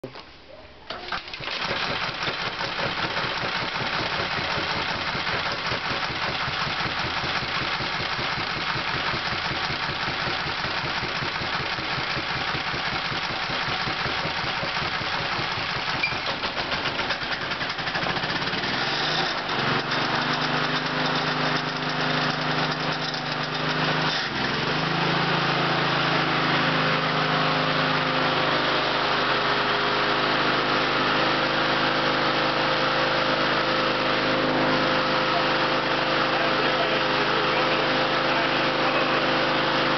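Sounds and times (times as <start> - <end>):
lawn mower engine running: 0.9 - 39.9.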